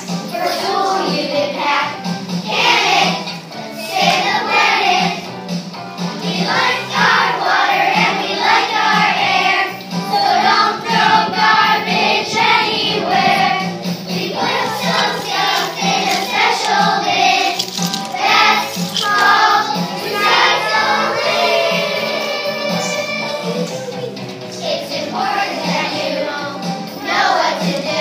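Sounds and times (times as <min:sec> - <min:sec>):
children singing: 0:00.0 - 0:05.3, 0:06.1 - 0:28.0
instrumental accompaniment: 0:00.0 - 0:27.5.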